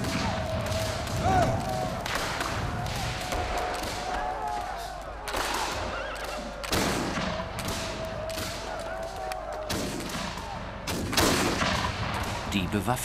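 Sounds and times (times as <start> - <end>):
musket shots: 0.0 - 12.7.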